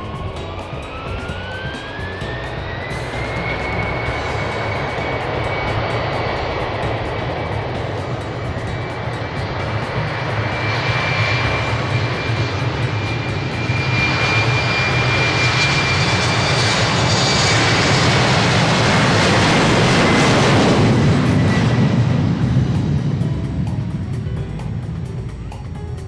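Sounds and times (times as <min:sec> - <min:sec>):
jet engines roaring with whine: 0:00.0 - 0:26.0.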